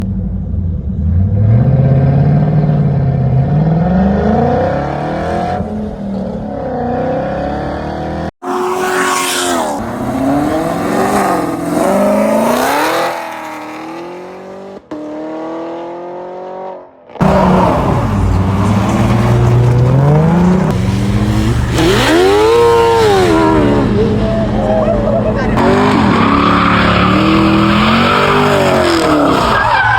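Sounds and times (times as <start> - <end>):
car engines revving hard: 1.1 - 29.9.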